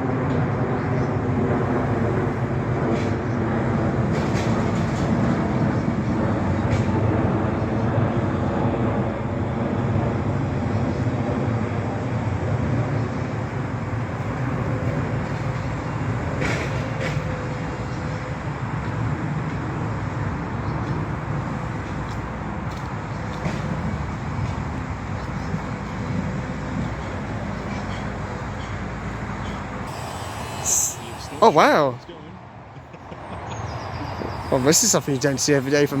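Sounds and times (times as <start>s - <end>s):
large engine rumbling: 0.0s - 36.0s.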